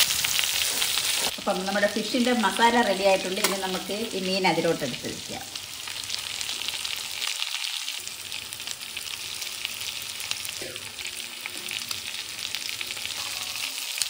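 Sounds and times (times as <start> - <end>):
gravy sizzling in a metal pan: 0.0 - 14.0.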